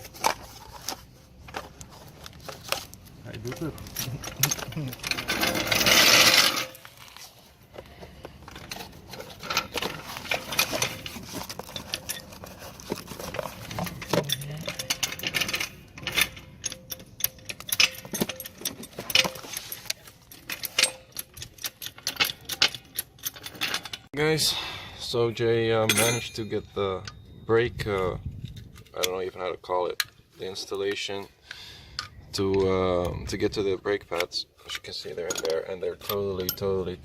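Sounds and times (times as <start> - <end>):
metal tools clinking and rattling: 0.0 - 24.1, 25.8 - 31.1, 34.1 - 37.0.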